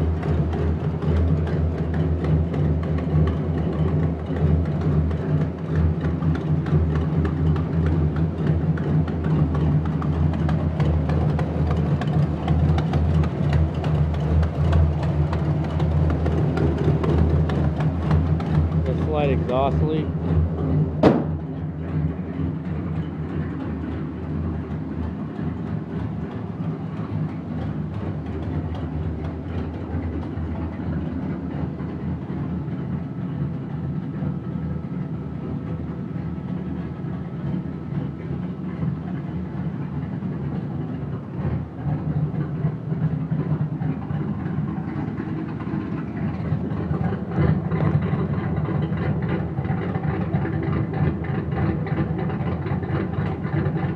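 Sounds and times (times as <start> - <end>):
car engine running: 0.0 - 53.9
fast exhaust leak ticking: 0.0 - 53.9.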